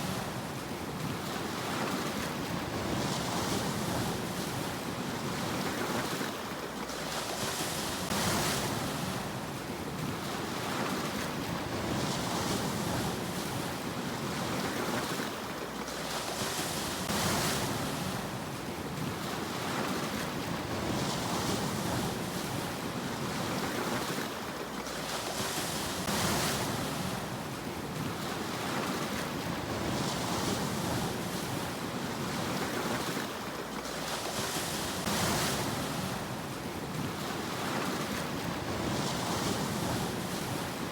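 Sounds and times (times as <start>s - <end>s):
sea waves breaking: 0.0s - 40.9s.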